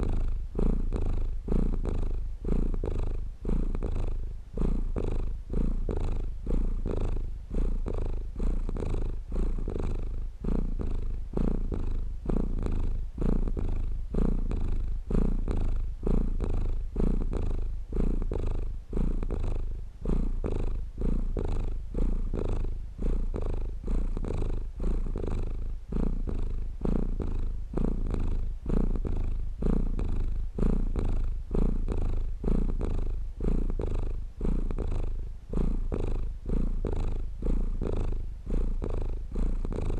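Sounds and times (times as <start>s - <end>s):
cat purring close up: 0.0s - 39.9s.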